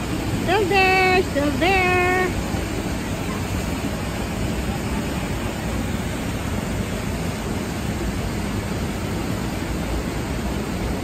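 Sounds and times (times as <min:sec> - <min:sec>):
river water rushing over ledge: 0:00.0 - 0:11.0.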